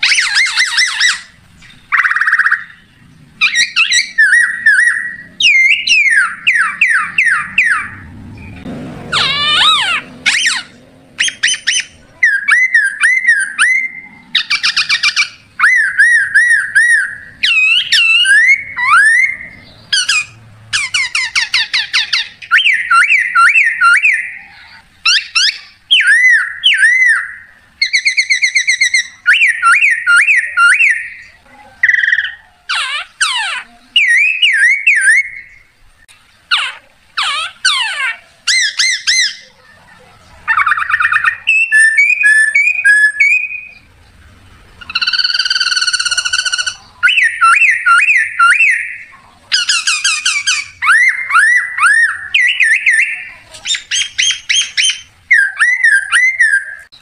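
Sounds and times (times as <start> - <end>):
leaf whistle imitating birdsong: 0.0 - 39.5, 40.5 - 43.9, 44.8 - 57.0.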